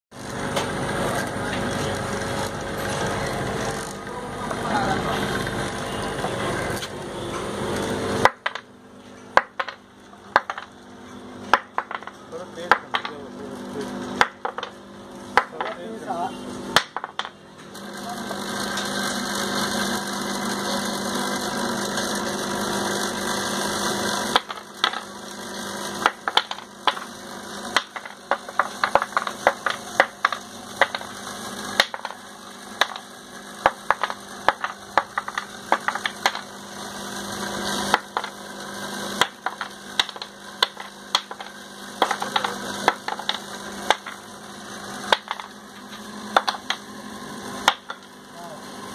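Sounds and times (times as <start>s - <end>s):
bowl feeder electric buzz: 0.1s - 48.9s.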